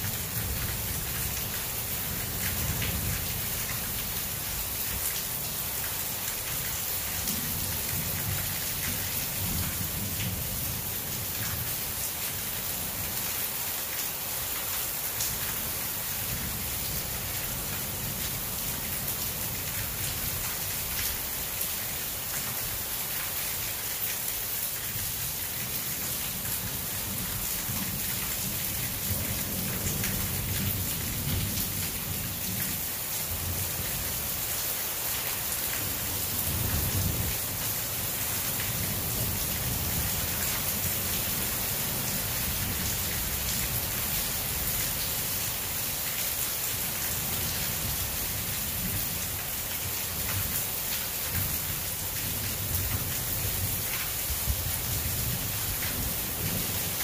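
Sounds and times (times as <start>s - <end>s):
heavy rain on concrete and leaves: 0.0s - 57.0s.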